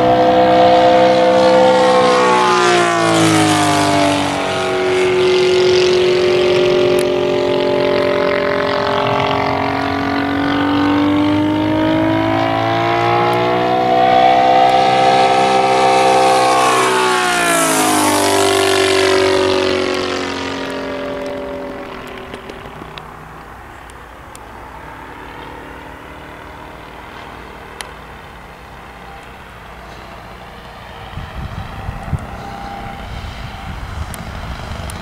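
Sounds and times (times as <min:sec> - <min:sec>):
model plane engine droning: 0:00.0 - 0:35.0.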